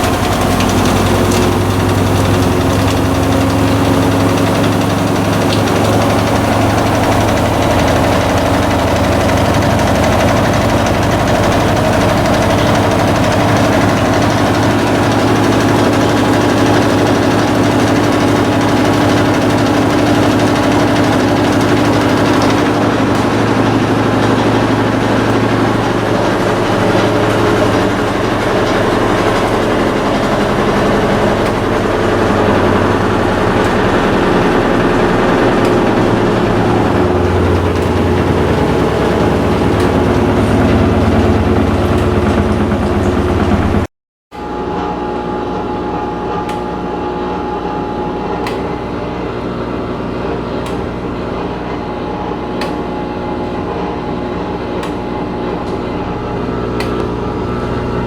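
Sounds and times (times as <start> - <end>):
washing machine motor and drum: 0.0 - 58.0.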